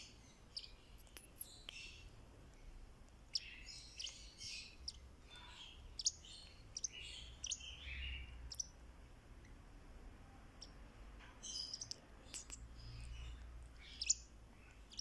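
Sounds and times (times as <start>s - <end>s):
lovebird chirping and chattering: 0.0s - 8.8s, 10.4s - 15.0s.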